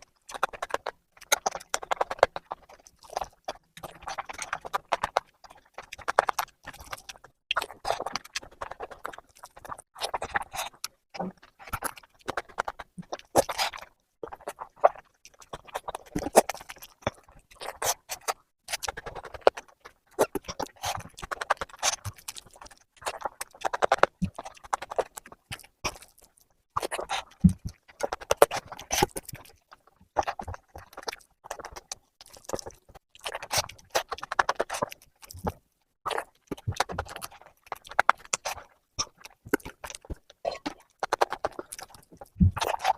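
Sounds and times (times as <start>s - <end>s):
wet chewing and lip-smacking: 0.0s - 42.9s.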